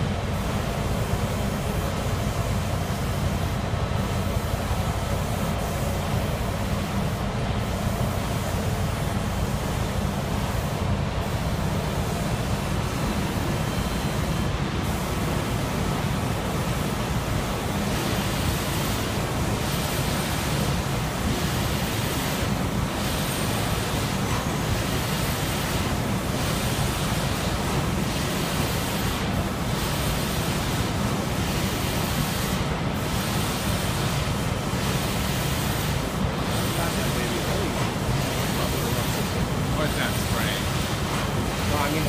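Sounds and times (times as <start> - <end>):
spray booth rushing: 0.0 - 42.0.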